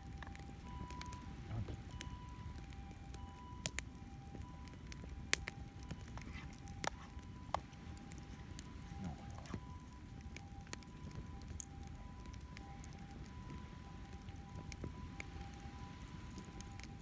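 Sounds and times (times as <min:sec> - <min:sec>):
campfire crackling and popping: 0:00.0 - 0:17.0
distant two-tone ambulance siren: 0:00.0 - 0:17.0
wind: 0:00.0 - 0:17.0.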